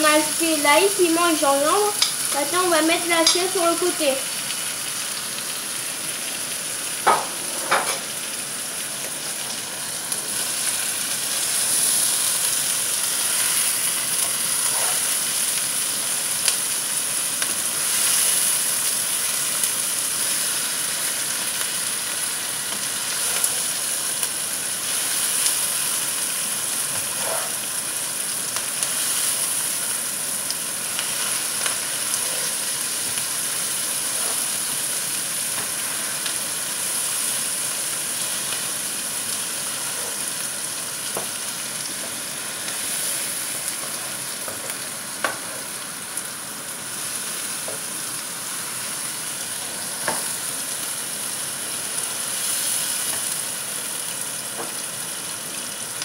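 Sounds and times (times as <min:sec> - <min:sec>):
vegetables sizzling in a frying pan: 0:00.0 - 0:56.0.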